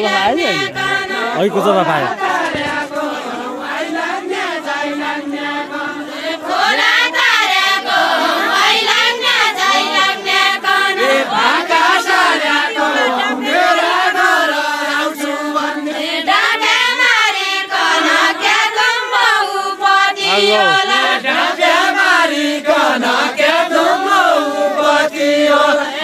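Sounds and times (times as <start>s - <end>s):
group singing unaccompanied: 0.0s - 26.0s.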